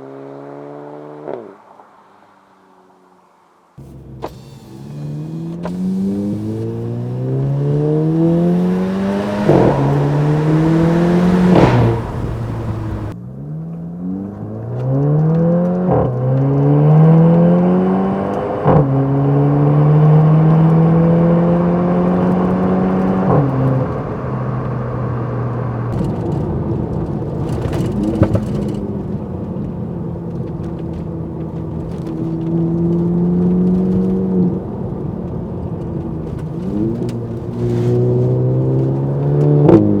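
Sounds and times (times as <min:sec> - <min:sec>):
car exhaust accelerating: 0:03.8 - 0:40.0.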